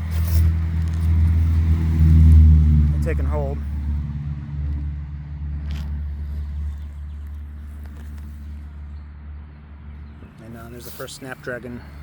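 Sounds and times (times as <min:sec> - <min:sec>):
low engine-like rumble: 0:00.0 - 0:12.0.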